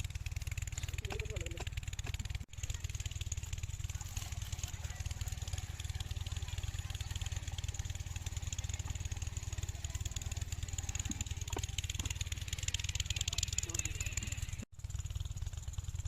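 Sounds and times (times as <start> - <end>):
diesel pump engine running: 0.0 - 16.0.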